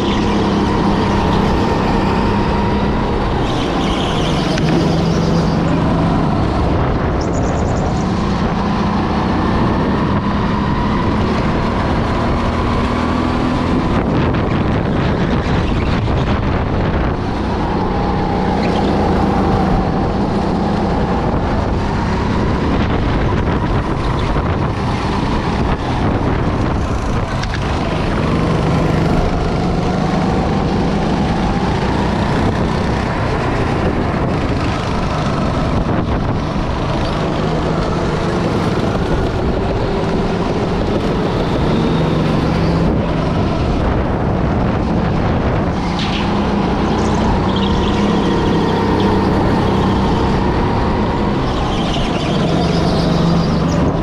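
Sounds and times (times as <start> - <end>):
go-kart engine running hard: 0.0 - 54.0
wind noise on microphone: 0.0 - 54.0.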